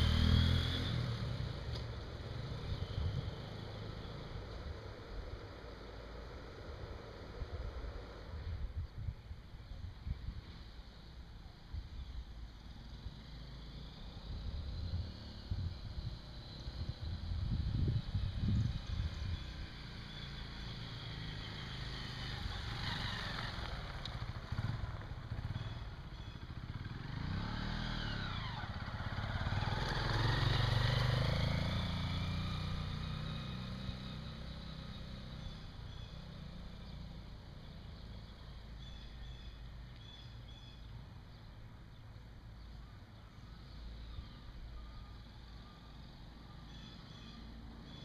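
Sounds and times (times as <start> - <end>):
motorcycle engine passing by: 0.0 - 8.8, 12.6 - 41.5, 43.3 - 48.0.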